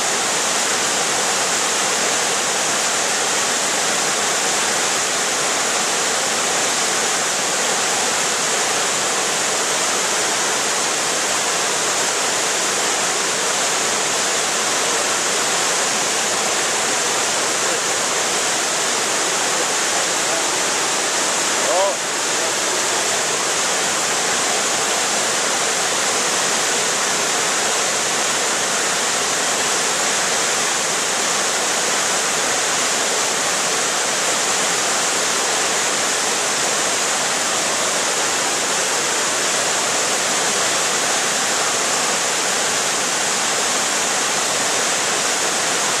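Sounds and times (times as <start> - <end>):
falling water rushing: 0.0 - 46.0.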